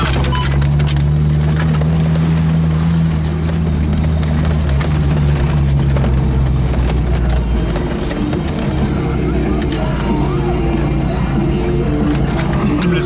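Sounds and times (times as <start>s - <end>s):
car engine running: 0.0s - 13.0s
knocks and clicks over rough ground: 0.0s - 13.0s.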